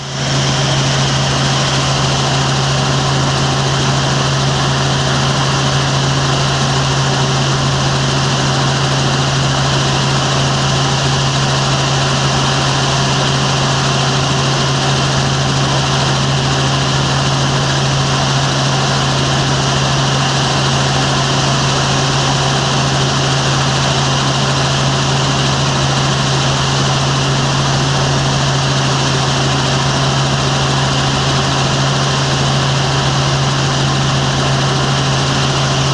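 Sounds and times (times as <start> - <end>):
helicopter drone: 0.0 - 35.9.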